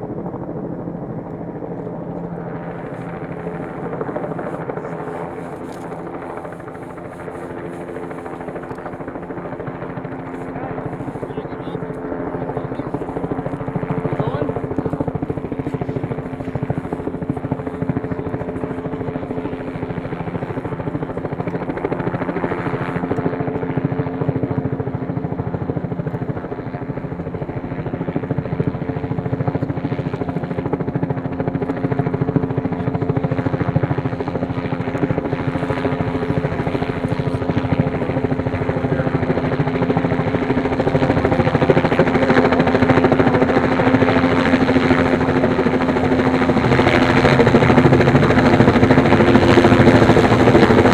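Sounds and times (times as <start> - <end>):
helicopter rotor beating: 0.0 - 50.9.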